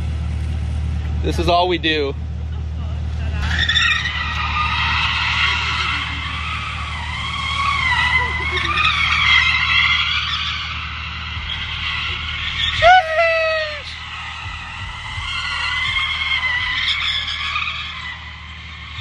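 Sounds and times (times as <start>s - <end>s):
car tyres squealing: 2.6s - 19.0s.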